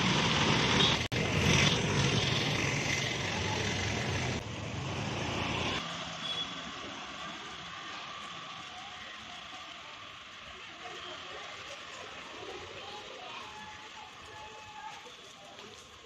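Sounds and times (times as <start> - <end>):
street background noise: 0.0 - 16.0.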